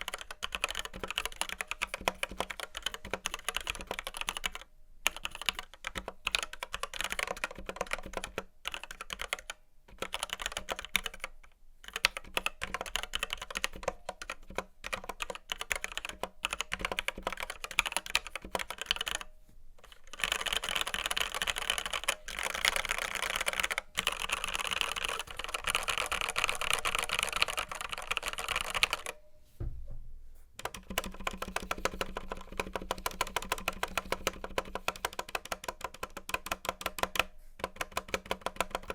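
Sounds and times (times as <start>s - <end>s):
mechanical keyboard typing: 0.0s - 29.2s, 30.6s - 38.9s.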